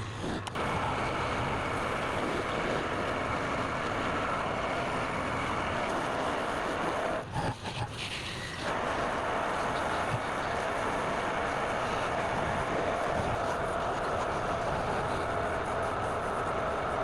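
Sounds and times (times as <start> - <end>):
lathe motor hum: 0.0 - 17.0
tool cutting on wood lathe: 0.0 - 17.0.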